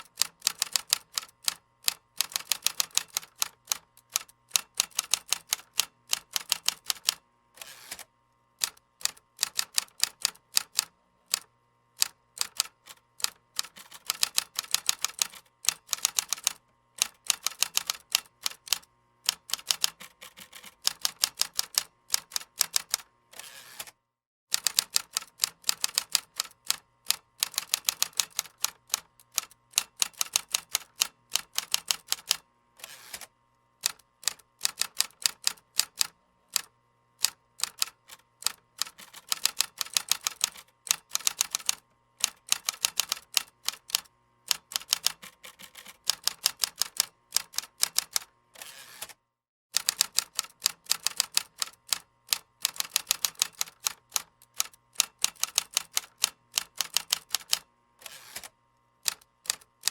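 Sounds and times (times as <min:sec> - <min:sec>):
typing on computer keyboard: 0:00.0 - 0:07.2, 0:07.9 - 0:23.1, 0:23.8 - 0:32.4, 0:33.8 - 0:49.2, 0:49.8 - 0:57.7, 0:58.3 - 0:59.9.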